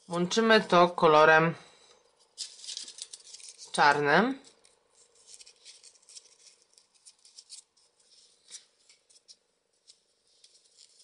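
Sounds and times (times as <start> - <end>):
paper rustling and clicking: 1.9 - 11.0.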